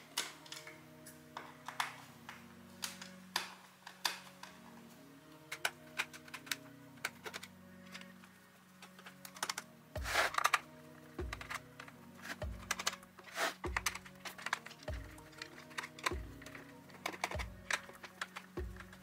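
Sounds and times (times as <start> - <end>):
soft background music: 0.0 - 19.0
hands clicking on plastic: 0.1 - 4.6, 5.4 - 8.1, 8.8 - 19.0.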